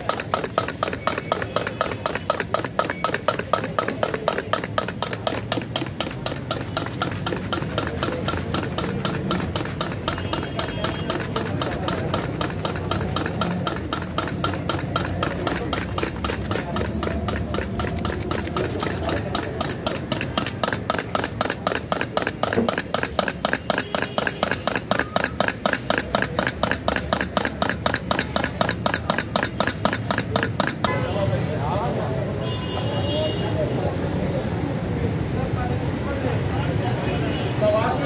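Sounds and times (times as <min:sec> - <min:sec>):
spoon beating eggs in steel bowl: 0:00.0 - 0:34.1
vegetables grated on hand grater: 0:00.0 - 0:34.4.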